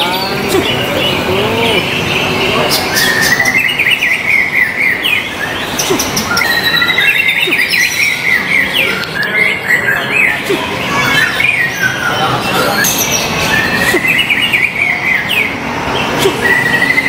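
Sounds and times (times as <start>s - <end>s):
bird chirps and trills: 0.0s - 17.0s.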